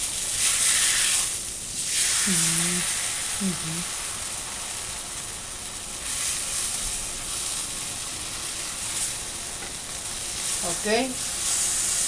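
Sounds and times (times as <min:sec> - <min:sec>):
tortilla sizzling in hot fat: 0:00.0 - 0:12.0.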